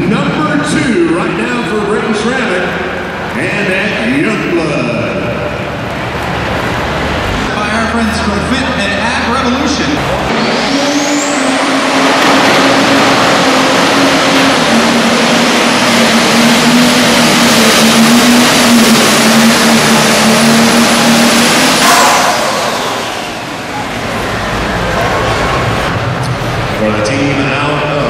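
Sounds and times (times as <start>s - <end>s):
diesel engine at full throttle: 0.0s - 28.0s
high turbo whine: 0.0s - 28.0s.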